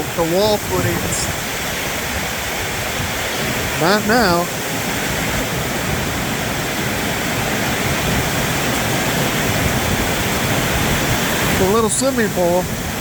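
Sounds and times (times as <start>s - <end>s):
heavy rain on metal roof: 0.0s - 13.0s.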